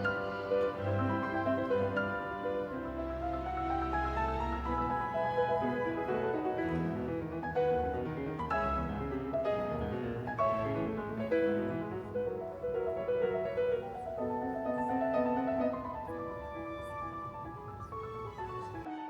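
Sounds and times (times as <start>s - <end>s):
low bowed strings: 0.0s - 18.8s
piano: 0.0s - 19.0s.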